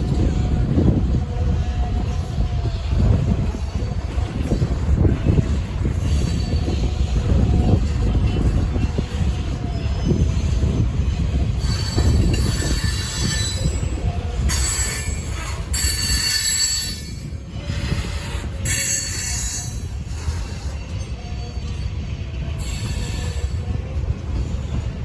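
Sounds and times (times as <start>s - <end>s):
steel wheels squealing on rails: 0.0s - 25.0s
train cars rumbling past: 0.0s - 25.0s.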